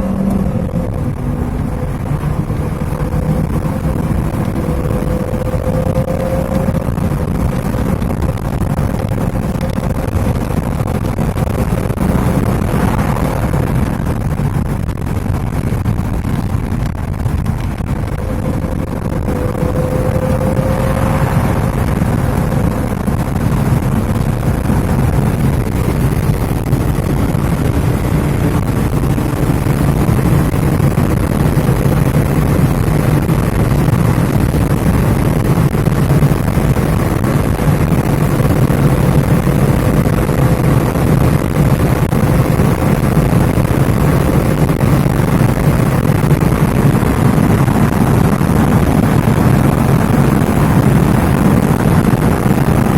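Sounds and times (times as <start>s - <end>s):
car engine running: 0.0s - 52.9s
tyre and road noise: 0.0s - 52.9s.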